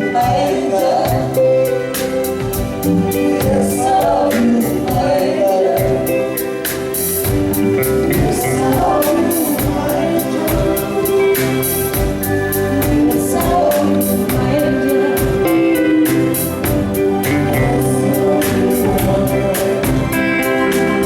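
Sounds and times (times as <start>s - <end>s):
band sustained chords: 0.0s - 21.0s
person singing: 0.0s - 21.0s
steady drum beat: 0.0s - 21.0s.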